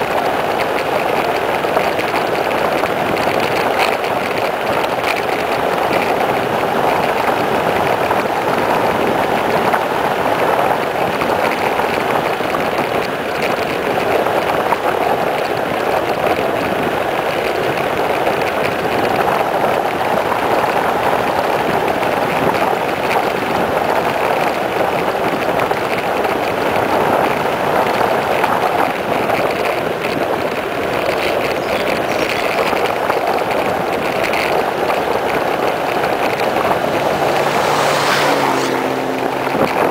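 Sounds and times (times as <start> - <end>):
tyres rolling on asphalt: 0.0 - 39.9
wind over microphone: 0.0 - 39.9.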